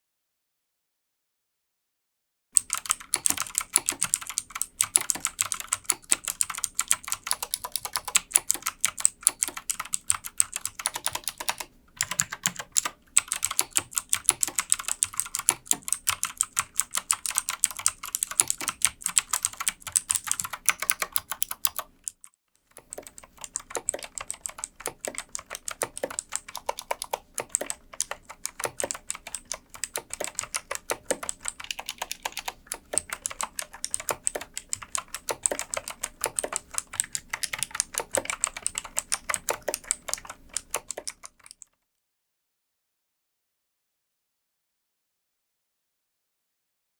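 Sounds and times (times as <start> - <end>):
mechanical keyboard typing: 2.6 - 41.8.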